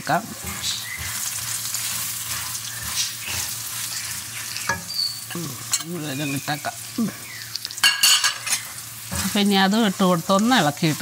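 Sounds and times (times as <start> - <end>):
spices sizzling in hot oil: 0.0 - 11.0
spatula scraping a pan: 0.3 - 6.0, 7.8 - 11.0.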